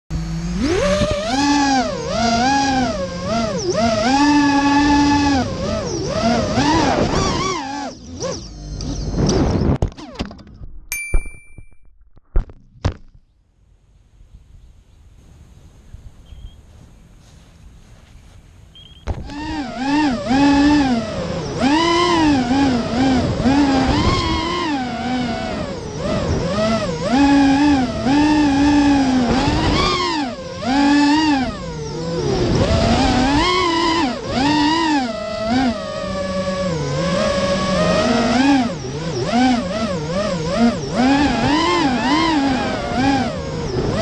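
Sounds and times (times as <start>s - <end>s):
quadcopter motors whining: 0.1s - 10.1s, 18.6s - 44.0s.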